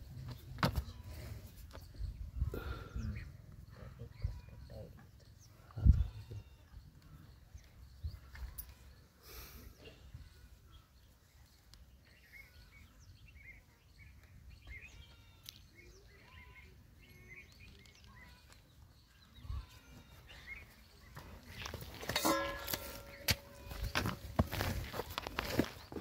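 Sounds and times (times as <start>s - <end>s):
small birds chirping: 0.1s - 22.2s.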